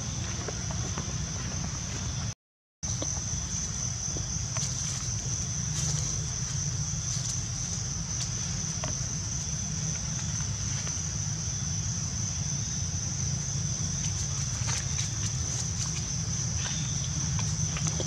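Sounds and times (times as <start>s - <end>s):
high-pitched insect drone: 2.9s - 18.0s.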